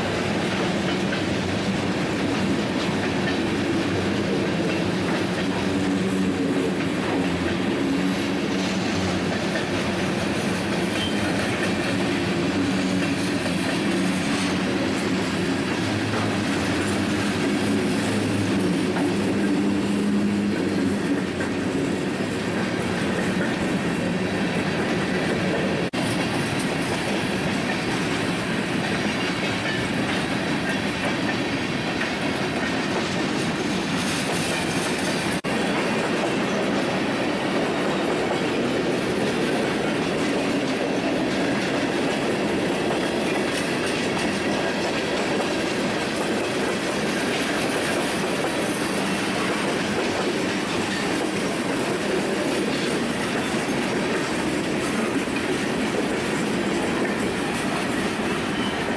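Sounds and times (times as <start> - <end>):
train cars rumbling: 0.0 - 58.9
wheels clacking over rail joints: 0.0 - 58.9.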